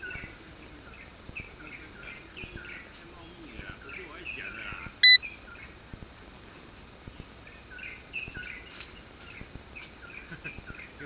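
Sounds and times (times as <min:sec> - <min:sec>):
small birds chirping: 0:00.0 - 0:05.9, 0:06.5 - 0:11.0.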